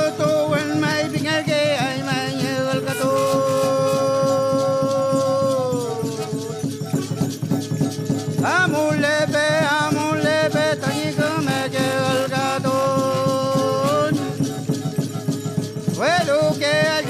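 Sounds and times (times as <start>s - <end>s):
folk melody: 0.0s - 17.0s
shaken rattle beat: 0.0s - 17.0s.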